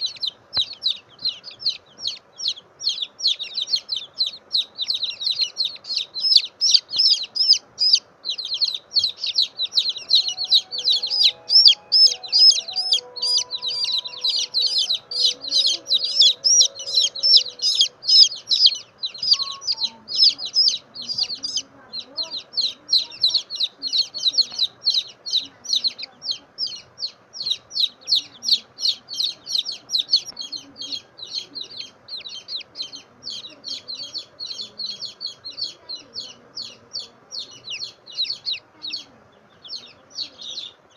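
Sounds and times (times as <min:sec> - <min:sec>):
baby chick peeping: 0:00.0 - 0:40.9.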